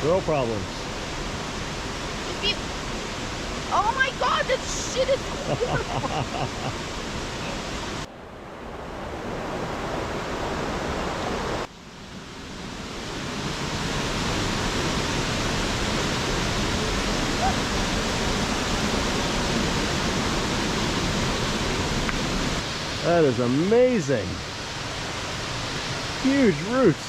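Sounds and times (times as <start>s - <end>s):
waterfall rushing: 0.0s - 8.1s, 8.7s - 27.0s.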